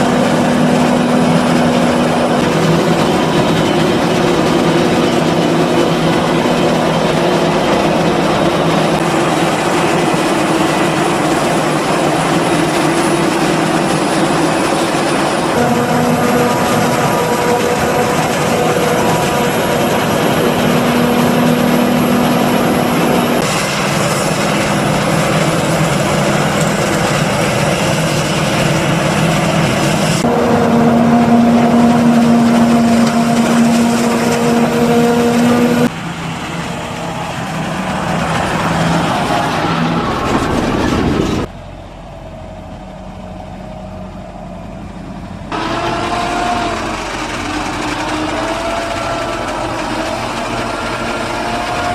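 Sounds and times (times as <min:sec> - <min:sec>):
harvester and tractors droning: 0:00.0 - 0:51.9.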